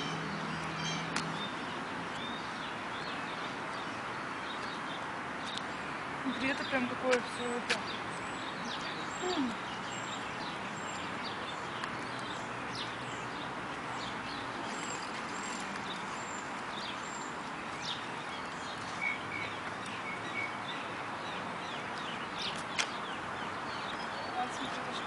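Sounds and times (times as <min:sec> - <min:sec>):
birds chirping: 0:00.0 - 0:25.0
outdoor background hiss: 0:00.0 - 0:25.0.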